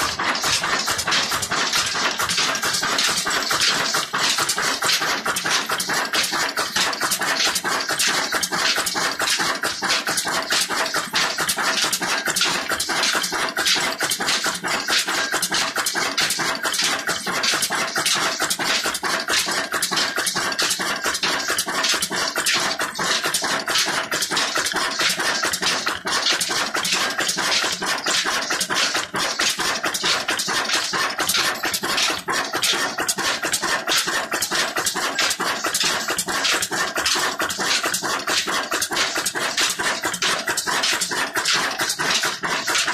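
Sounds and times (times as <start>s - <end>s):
diesel engine running with clatter: 0.0s - 42.9s.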